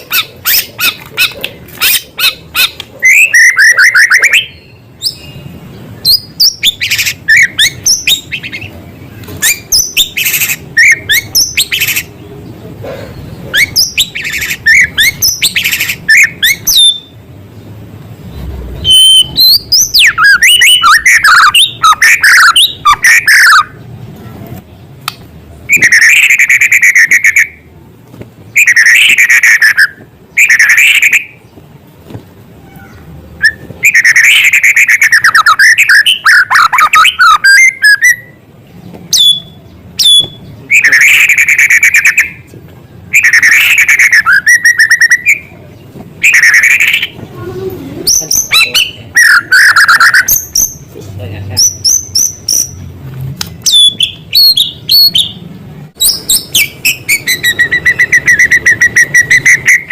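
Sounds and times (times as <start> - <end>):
bird singing trills and whistles: 0.0 - 12.2, 13.2 - 17.2, 18.3 - 23.8, 25.7 - 27.6, 28.5 - 31.5, 32.7 - 38.4, 39.1 - 42.5, 43.1 - 45.6, 46.2 - 47.2, 48.0 - 50.9, 51.6 - 52.9, 53.6 - 55.4, 56.0 - 59.9.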